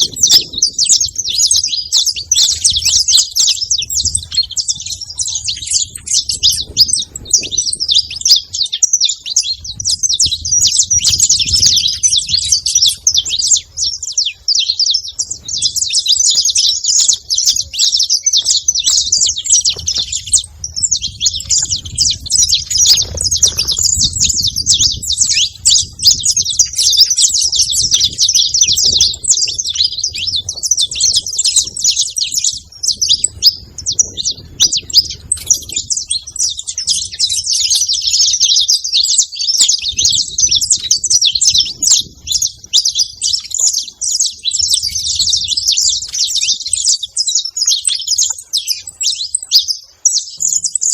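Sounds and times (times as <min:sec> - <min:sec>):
finch chirping rapidly: 0:00.0 - 0:50.9.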